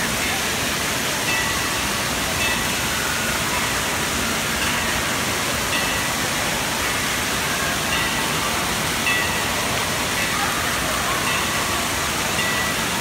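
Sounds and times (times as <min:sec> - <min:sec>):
fountain water rushing: 0:00.0 - 0:13.0.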